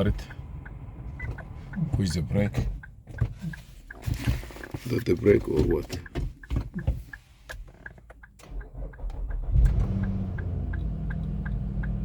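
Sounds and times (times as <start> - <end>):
car engine starting and idling: 0.0 - 12.0
light ticking: 0.0 - 12.0.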